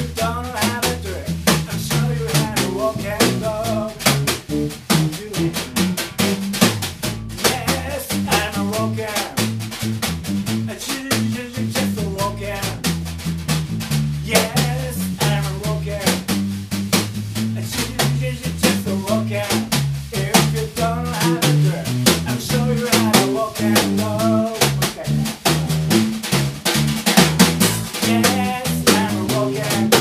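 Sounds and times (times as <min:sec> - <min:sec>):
drum kit snare and rimshots: 0:00.0 - 0:30.0
electric bass line: 0:00.0 - 0:30.0.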